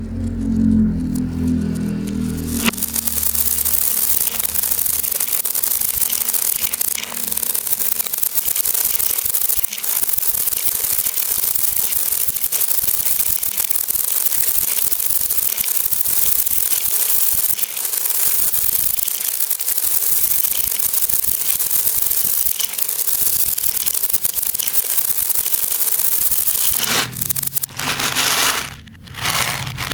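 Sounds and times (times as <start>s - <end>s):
beads rattling in reverse: 0.1s - 29.9s.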